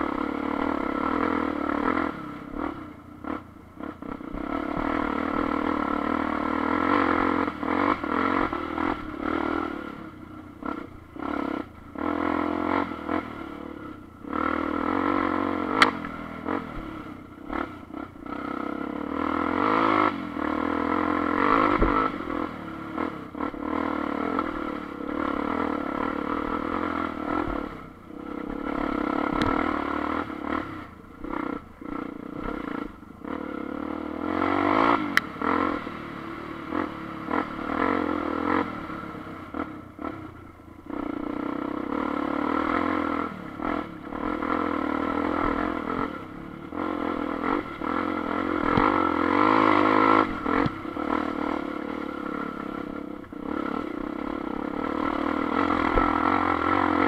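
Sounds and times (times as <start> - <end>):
motorcycle engine revving: 0.0 - 57.0
motorcycle rattling: 0.0 - 57.0.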